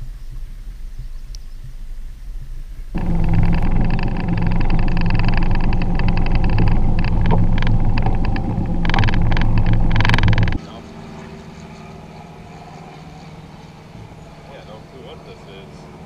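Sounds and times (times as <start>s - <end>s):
small boat motor humming: 3.0s - 16.0s.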